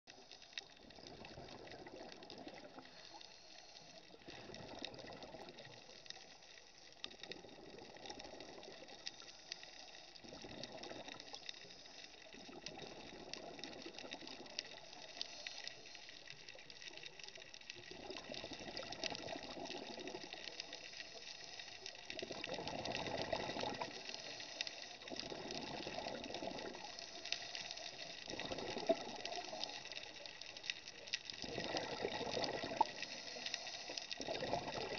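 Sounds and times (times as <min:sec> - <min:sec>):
steady hiss: 0:00.1 - 0:01.1, 0:02.4 - 0:04.5, 0:05.4 - 0:07.3, 0:08.2 - 0:34.9
exhaled bubbles gurgling underwater: 0:00.1 - 0:34.9.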